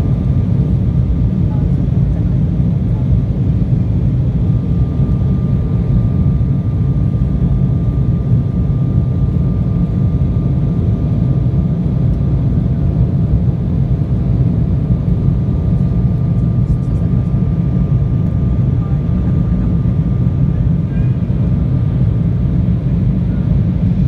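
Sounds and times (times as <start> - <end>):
airliner engine and airflow rumble: 0.0 - 24.0.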